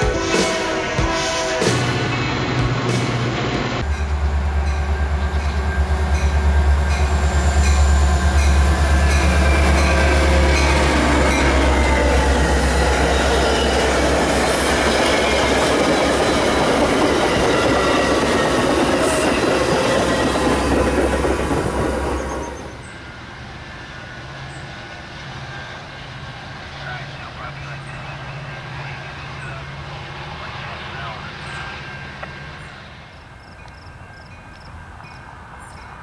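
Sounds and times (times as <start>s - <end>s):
diesel locomotive droning: 0.0s - 36.0s.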